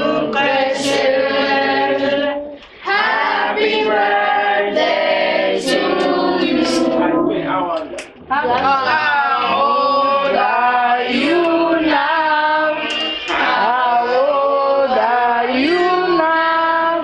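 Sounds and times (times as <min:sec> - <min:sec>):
women and children singing: 0:00.0 - 0:07.7, 0:08.3 - 0:17.0.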